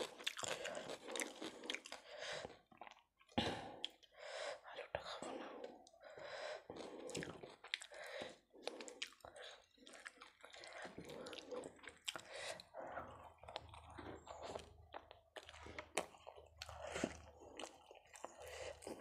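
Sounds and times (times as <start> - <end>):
wet chewing clicks and squishes: 0.0 - 4.1, 6.8 - 19.0.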